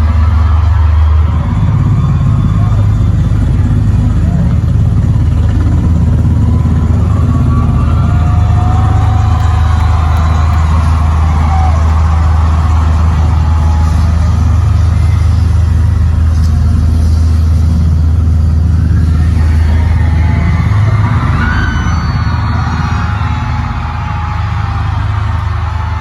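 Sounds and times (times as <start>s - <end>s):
crowd noise: 0.0s - 26.0s
loud low drone through speakers: 0.0s - 26.0s.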